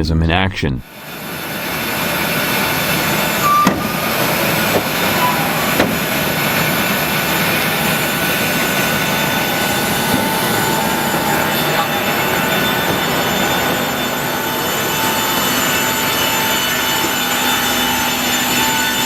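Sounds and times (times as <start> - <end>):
jet engines reverse thrust roar: 0.9 - 19.0.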